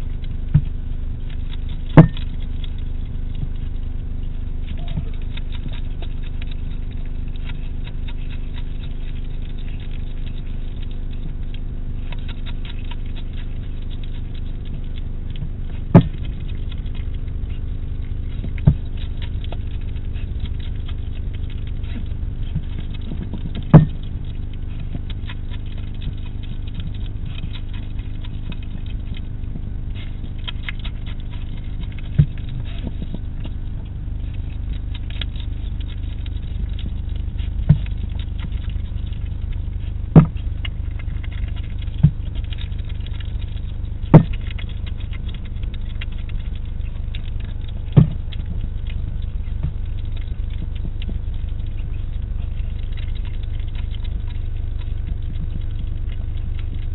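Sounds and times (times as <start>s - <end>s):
hedgehog chewing: 0.0s - 56.9s
steady low hum: 0.0s - 56.9s.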